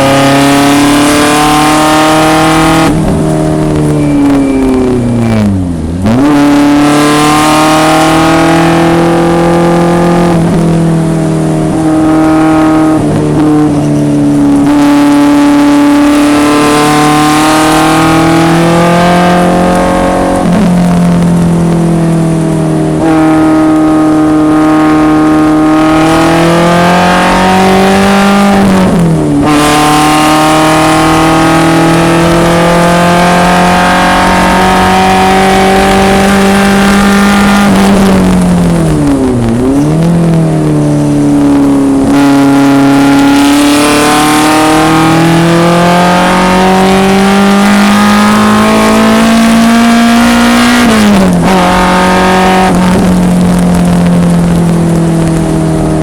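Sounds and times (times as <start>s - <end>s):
racing car engine running hard: 0.0s - 56.0s.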